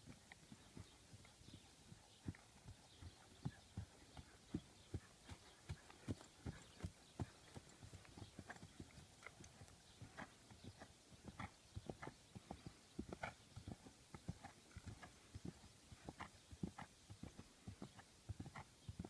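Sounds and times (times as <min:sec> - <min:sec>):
horse hoofbeats on grass: 0:00.0 - 0:19.0.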